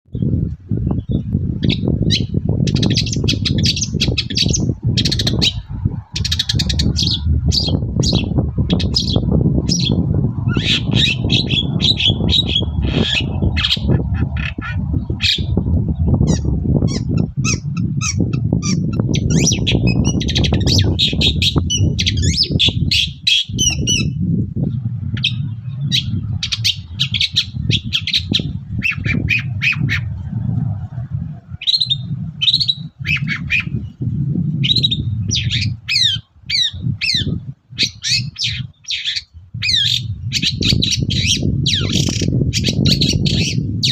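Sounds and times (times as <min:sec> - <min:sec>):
steady low rumble: 0:00.1 - 0:38.4
bird singing harsh chirping notes: 0:01.0 - 0:30.2, 0:31.6 - 0:43.9.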